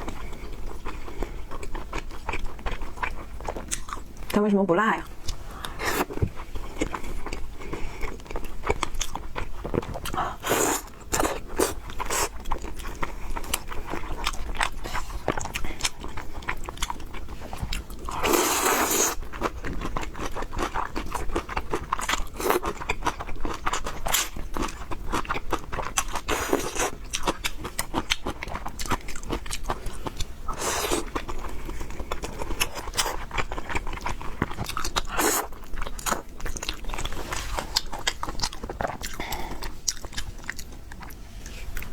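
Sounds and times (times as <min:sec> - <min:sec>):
chewing and crunching: 0:00.0 - 0:04.4, 0:05.0 - 0:41.9.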